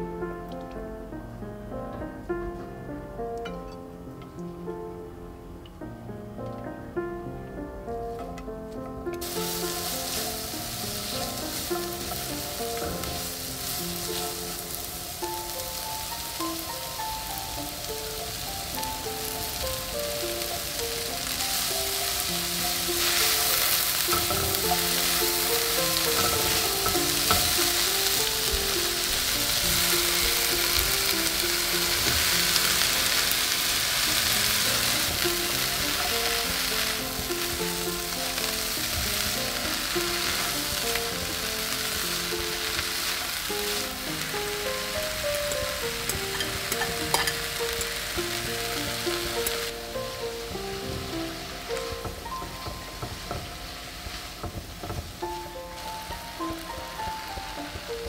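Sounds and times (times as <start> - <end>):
soft background music: 0.0 - 58.0
vegetables sizzling in oil: 9.2 - 58.0.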